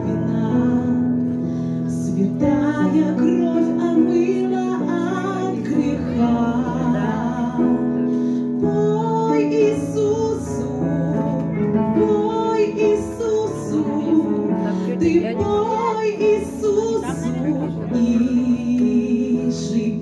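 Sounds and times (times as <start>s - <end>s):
instrumental backing music: 0.0s - 20.0s
woman singing into a microphone: 0.0s - 20.0s.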